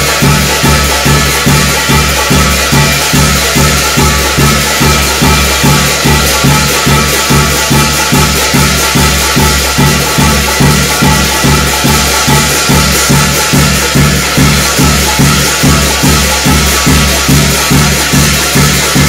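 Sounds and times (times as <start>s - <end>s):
drum beating fast rhythm: 0.0s - 19.0s
jangling metal percussion: 0.0s - 19.0s.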